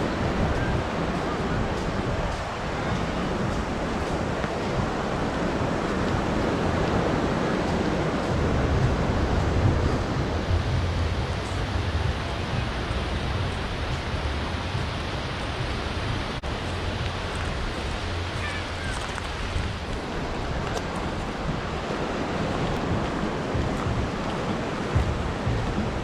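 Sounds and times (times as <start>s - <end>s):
breaking surf: 0.0s - 26.0s
wind: 0.0s - 26.0s
wind rumble on microphone: 0.0s - 26.0s.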